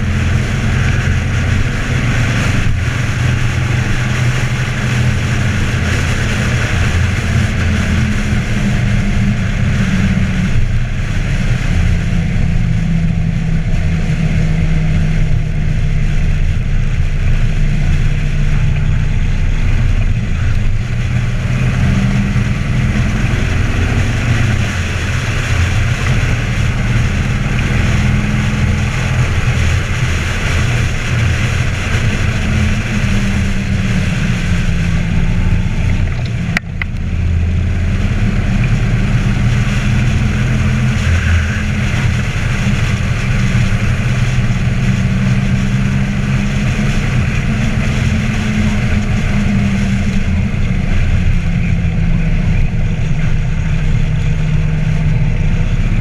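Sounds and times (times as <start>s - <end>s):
motorcycle engine cruising: 0.0s - 56.0s
wind on microphone: 0.0s - 56.0s.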